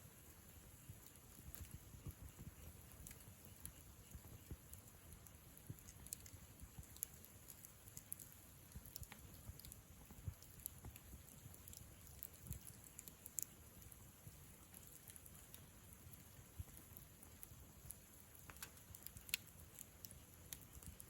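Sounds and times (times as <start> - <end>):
low hiss: 0.0 - 21.0
campfire crackling and popping: 0.1 - 21.0.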